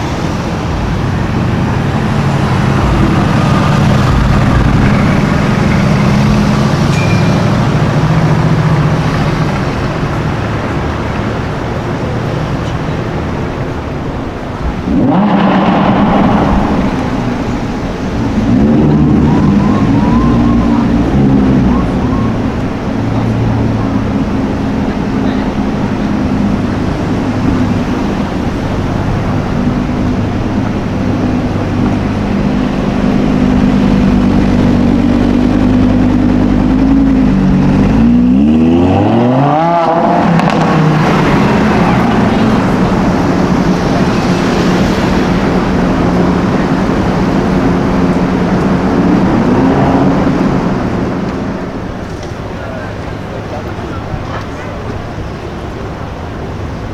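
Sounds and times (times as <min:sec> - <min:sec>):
car engine revving: 0:00.0 - 0:56.9
road noise: 0:00.0 - 0:56.9.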